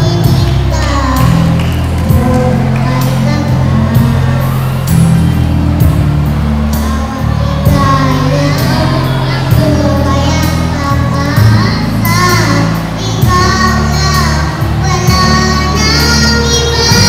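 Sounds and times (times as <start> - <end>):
child singing into a microphone: 0.0 - 4.5, 6.7 - 17.0
backing music with beat and bass: 0.0 - 17.0.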